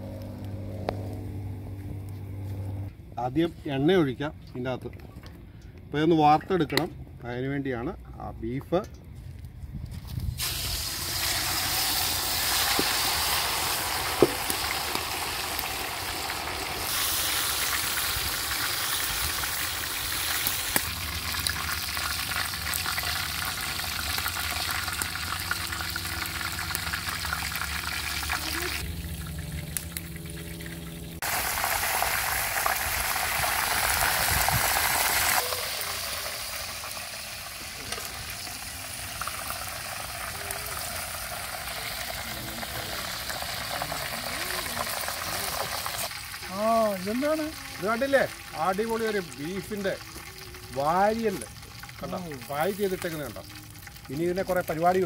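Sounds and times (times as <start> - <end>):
meat sizzling in hot oil: 10.3 - 55.0.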